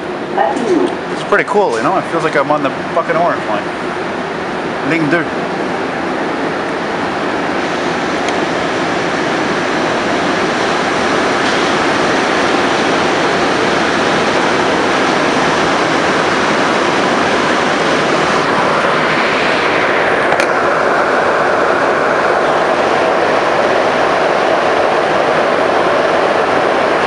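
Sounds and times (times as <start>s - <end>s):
metro car running: 0.0s - 27.0s.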